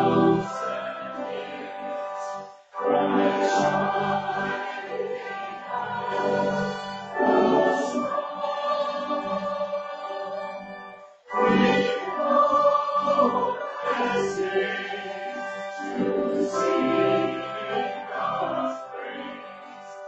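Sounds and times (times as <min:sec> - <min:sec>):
congregation and choir singing hymn: 0:00.0 - 0:20.0.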